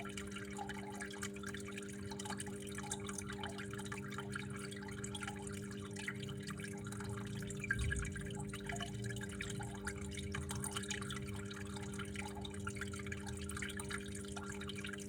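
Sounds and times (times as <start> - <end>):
steady low hum: 0.0 - 15.0
water trickling and dripping: 0.0 - 15.0.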